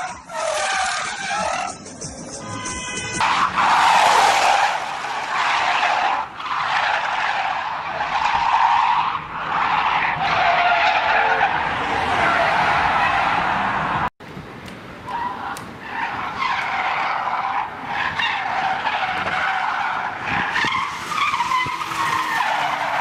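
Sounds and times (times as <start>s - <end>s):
car tyres screeching: 0.0s - 14.1s, 15.0s - 23.0s.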